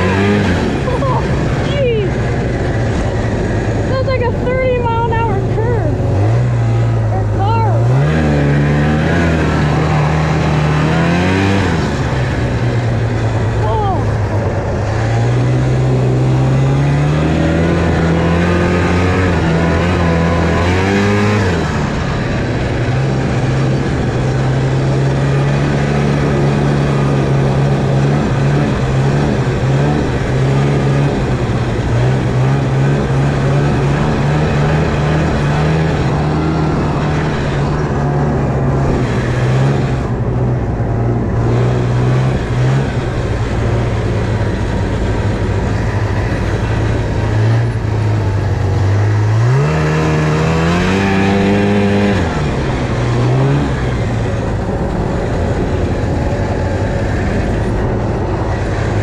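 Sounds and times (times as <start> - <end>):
constant rushing noise: 0.0 - 59.0
snowmobile engine: 0.0 - 59.0.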